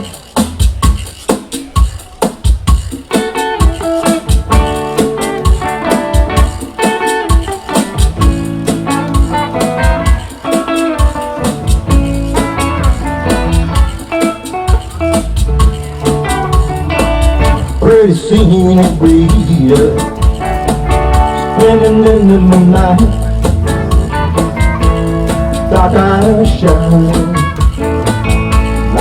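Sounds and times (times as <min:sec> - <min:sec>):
steady percussion beat: 0:00.0 - 0:29.0
plucked guitar notes: 0:03.1 - 0:29.0.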